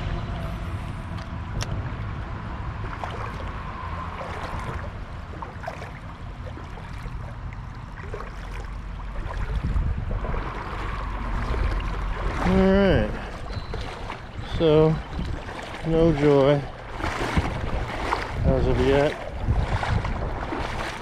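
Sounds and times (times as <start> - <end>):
low rumble: 0.0 - 21.0
creek water running: 1.6 - 21.0.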